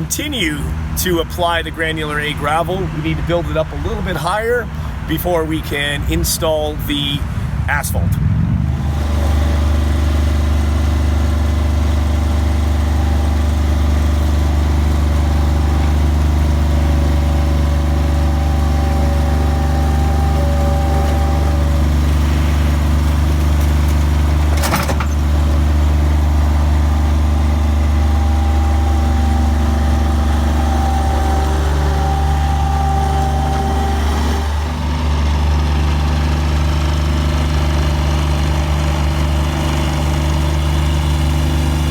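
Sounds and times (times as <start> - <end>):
skid steer engine running: 0.0 - 41.9.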